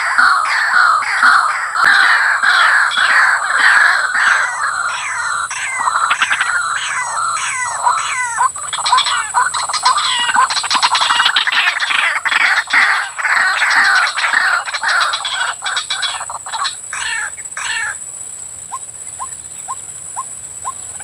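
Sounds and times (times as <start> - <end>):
waterhen calling: 0.0 - 18.0, 18.7 - 21.0.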